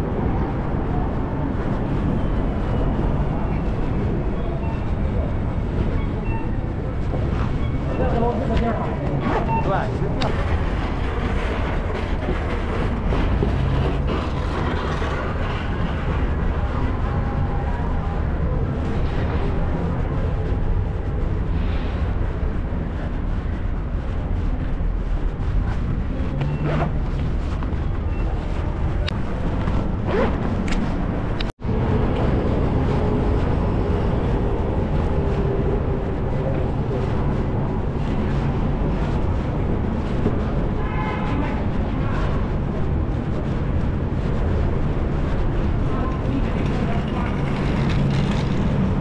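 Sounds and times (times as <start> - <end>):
city street traffic rumble: 0.0 - 49.0
wind buffeting microphone: 0.0 - 49.0.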